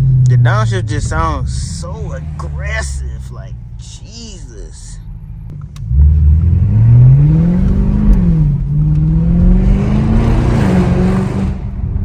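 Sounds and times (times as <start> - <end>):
loud car exhaust accelerating: 0.0 - 3.9, 5.0 - 12.0.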